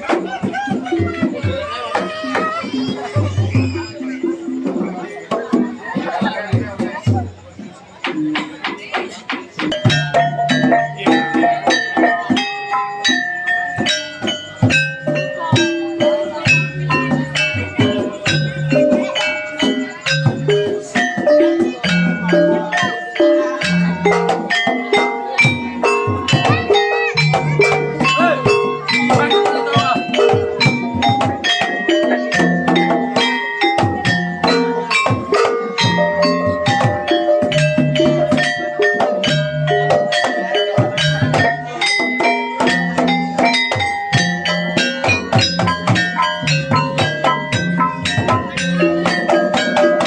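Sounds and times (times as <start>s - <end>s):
drum and gong strikes: 8.0s - 50.0s
metal keyed instruments melody: 9.6s - 50.0s.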